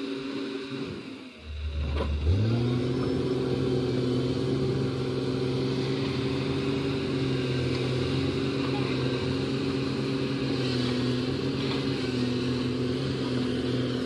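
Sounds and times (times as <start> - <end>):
excavator diesel engine revving: 0.0 - 14.0.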